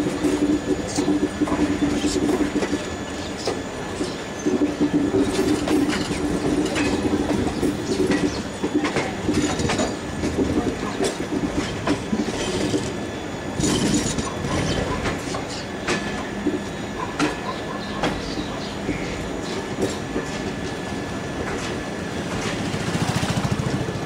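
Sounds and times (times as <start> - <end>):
train rumble: 0.0 - 24.0
train wheels clacking over joints: 0.0 - 24.0.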